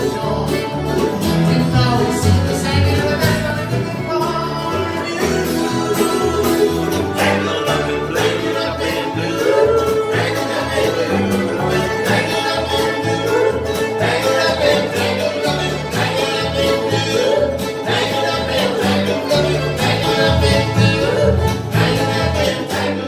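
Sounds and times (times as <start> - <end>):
acoustic guitar: 0.0 - 23.0
fiddle: 0.0 - 23.0
mandolin: 0.0 - 23.0
resonator guitar: 0.0 - 23.0
upright bass pulsing: 0.0 - 23.0.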